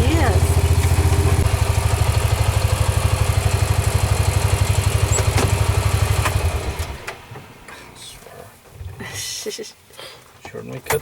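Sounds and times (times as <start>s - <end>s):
vehicle engine idling: 0.0s - 9.0s.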